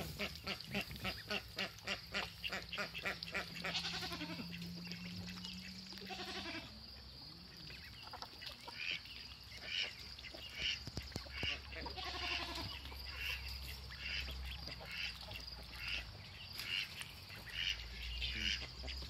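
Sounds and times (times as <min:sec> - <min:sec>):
ducks quacking: 0:00.0 - 0:06.7, 0:07.5 - 0:19.0.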